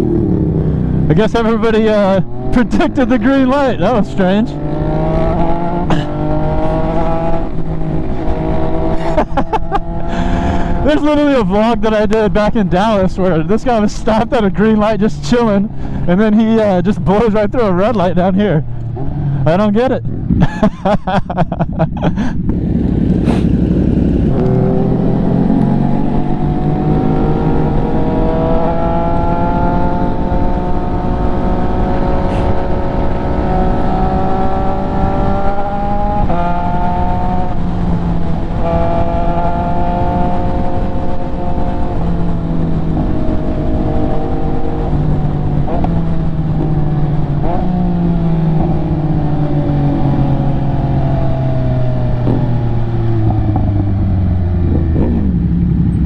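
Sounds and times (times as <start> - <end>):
sport bike engine revving: 0.0 - 11.3, 22.4 - 56.0.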